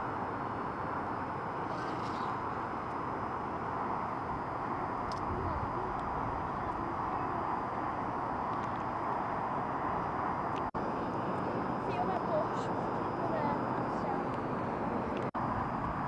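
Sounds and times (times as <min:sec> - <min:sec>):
distant road traffic hiss: 0:00.0 - 0:16.0.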